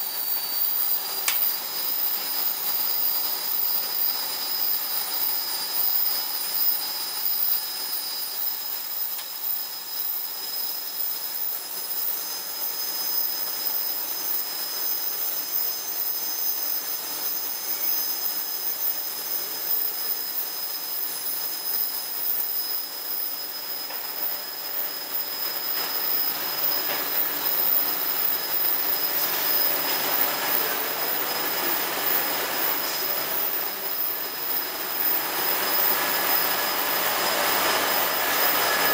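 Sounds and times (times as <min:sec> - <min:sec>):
high steady whines: 0:00.0 - 0:38.9
machine mechanical hiss: 0:00.0 - 0:38.9.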